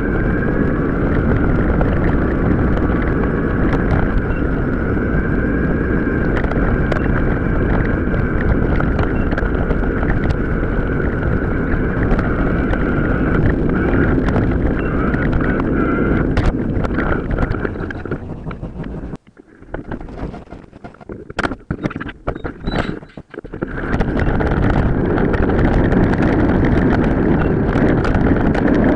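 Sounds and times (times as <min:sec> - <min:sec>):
mountain bike rumble and rattle: 0:00.0 - 0:28.9
wind buffeting microphone: 0:00.0 - 0:28.9.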